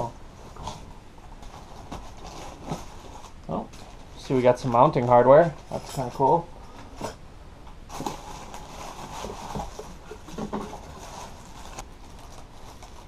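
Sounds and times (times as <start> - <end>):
plastic wrapping crinkling: 0.5 - 6.2, 7.9 - 13.0.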